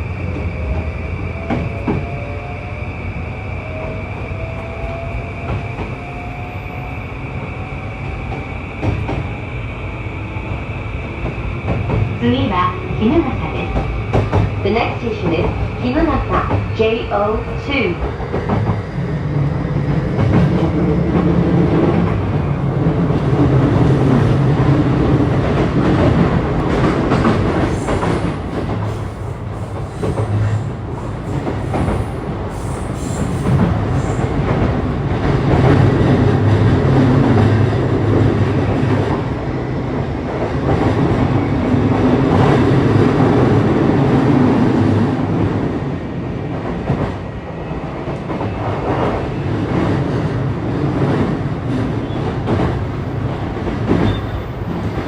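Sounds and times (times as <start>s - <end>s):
train drive hum: 0.0s - 55.0s.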